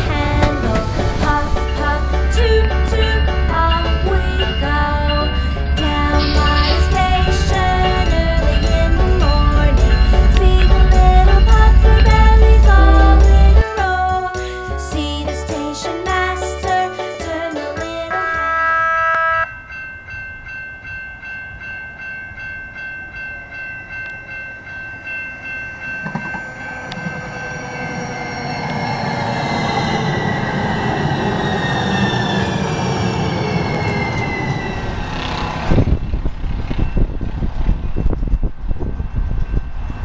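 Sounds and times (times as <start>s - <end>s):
railroad crossing bell ringing: 0.0s - 14.8s, 15.7s - 40.0s
train rumble and wheel clatter: 0.0s - 18.1s, 19.7s - 40.0s.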